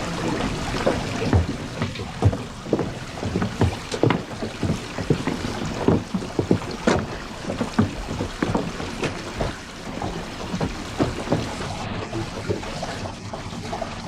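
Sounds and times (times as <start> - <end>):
running water: 0.0 - 14.0
wooden knocks and clatter: 0.4 - 12.7.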